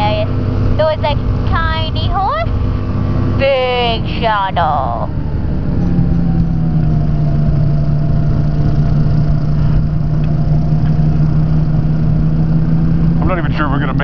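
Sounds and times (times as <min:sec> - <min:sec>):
aircraft engine droning: 0:00.0 - 0:14.0.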